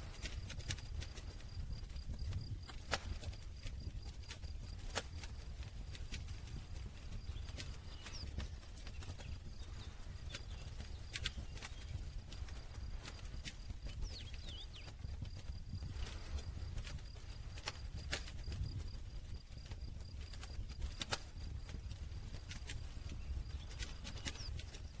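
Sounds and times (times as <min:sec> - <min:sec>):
campfire crackling and popping: 0:00.0 - 0:25.0
low rumble of flames: 0:00.0 - 0:25.0.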